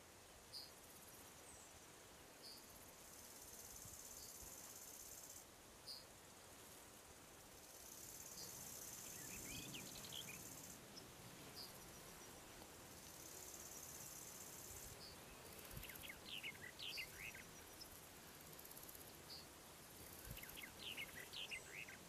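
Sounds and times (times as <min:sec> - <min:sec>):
insects buzzing: 0:00.5 - 0:22.0.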